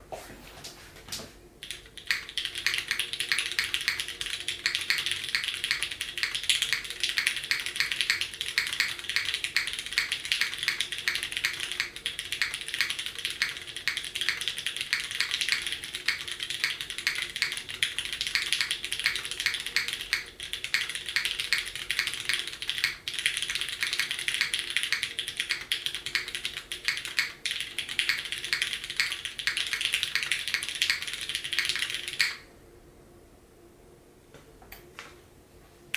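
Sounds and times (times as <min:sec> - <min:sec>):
fast typing on mechanical keyboard: 0:01.6 - 0:32.4.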